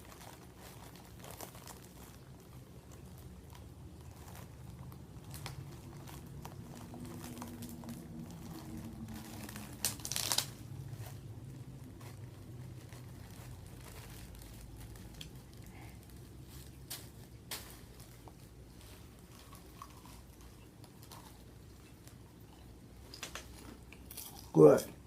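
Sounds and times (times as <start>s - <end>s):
popcorn bag crinkling: 0.0s - 25.0s.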